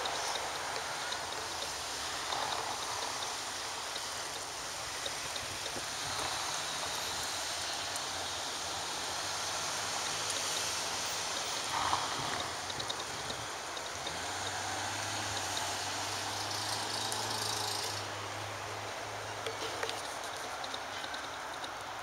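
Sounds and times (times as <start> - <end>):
low traffic rumble: 0.0 - 22.0
outdoor background hiss: 0.0 - 22.0.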